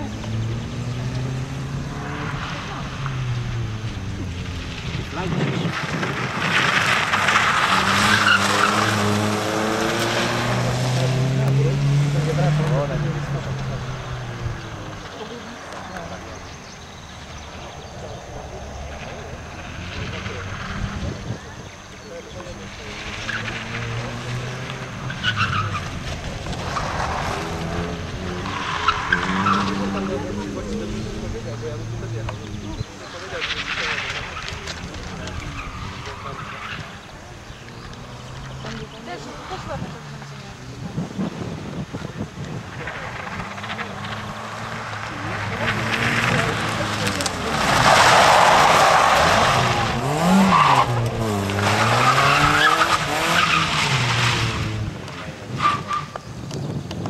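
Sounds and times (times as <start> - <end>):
car engine revving: 0.0 - 56.3
tyres squealing: 5.1 - 40.7, 42.8 - 56.4.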